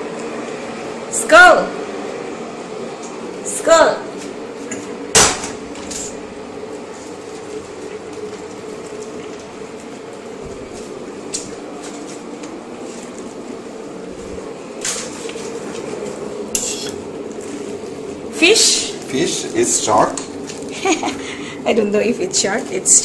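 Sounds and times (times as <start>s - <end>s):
pots bubbling and hissing: 0.0s - 23.0s.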